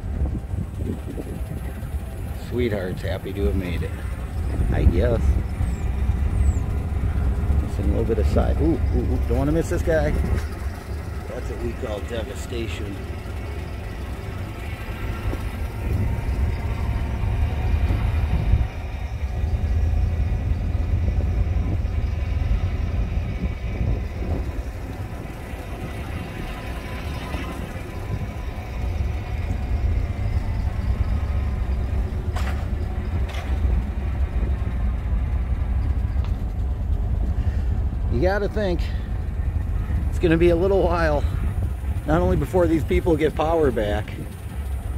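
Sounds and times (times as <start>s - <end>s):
vehicle engine and road noise: 0.0s - 44.9s.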